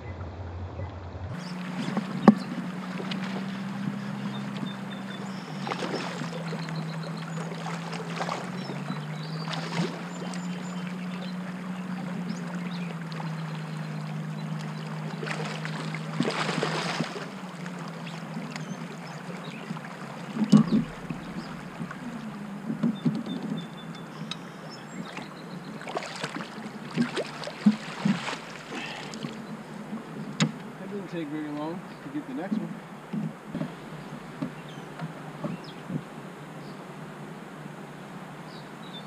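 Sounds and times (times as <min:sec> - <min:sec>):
water along hull: 0:00.0 - 0:39.0.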